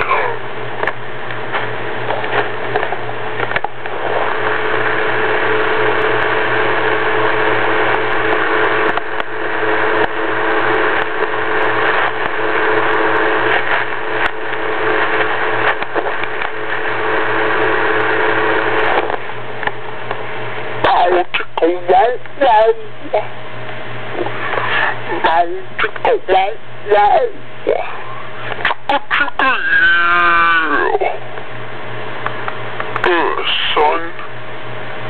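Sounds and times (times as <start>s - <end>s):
loud whirring with hum: 0.0s - 35.0s.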